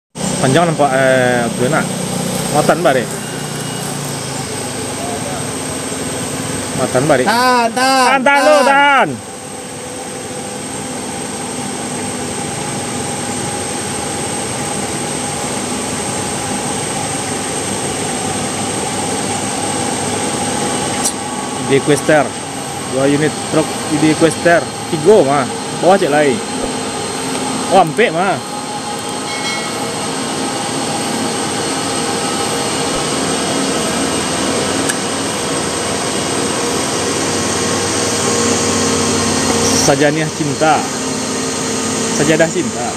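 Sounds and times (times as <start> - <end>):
heavy truck diesel engines droning: 0.2 - 42.9.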